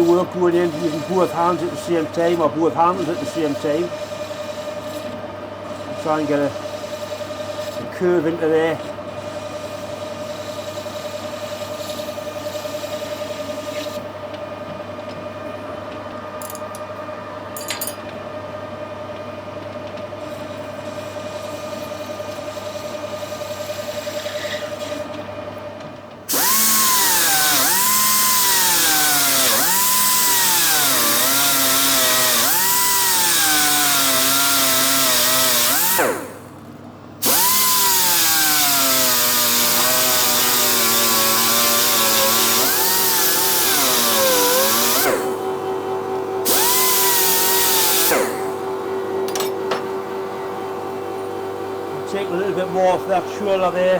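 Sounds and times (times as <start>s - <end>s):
loud power tool: 0.0s - 14.1s, 20.2s - 25.2s, 26.3s - 53.9s
metal lathe humming: 0.0s - 18.2s, 26.3s - 36.6s, 37.2s - 53.9s.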